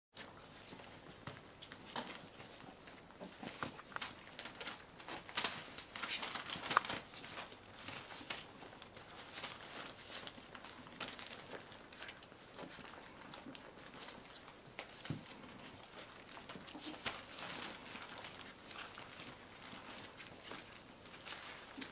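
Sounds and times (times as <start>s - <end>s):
newspaper rustling and crinkling: 0.2s - 21.9s.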